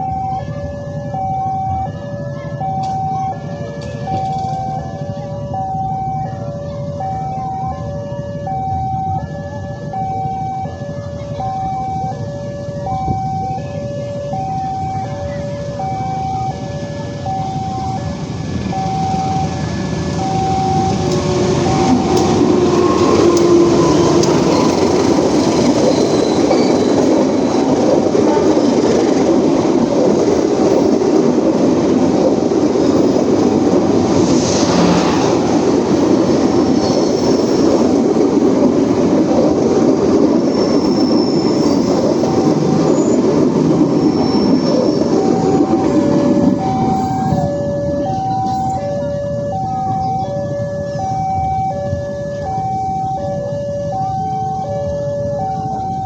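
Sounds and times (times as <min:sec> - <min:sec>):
level-crossing two-tone warning signal: 0:00.0 - 0:56.0
train rumble and wheel noise: 0:00.0 - 0:56.0.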